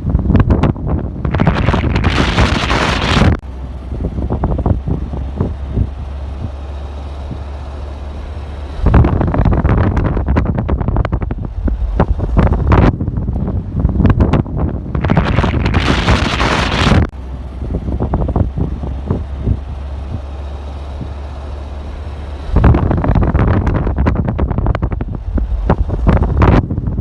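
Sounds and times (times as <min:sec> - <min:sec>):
wind buffeting microphone: 0:00.0 - 0:07.6, 0:08.7 - 0:21.6, 0:22.2 - 0:27.0.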